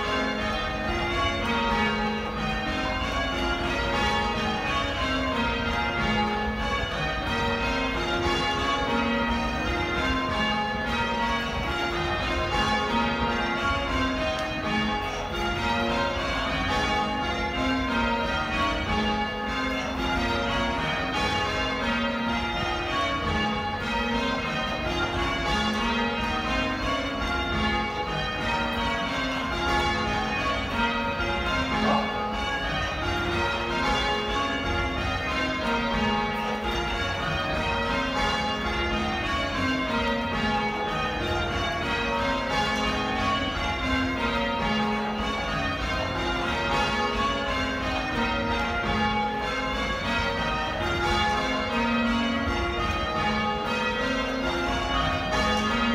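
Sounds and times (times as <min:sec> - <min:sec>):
church bells change ringing: 0:00.0 - 0:55.9.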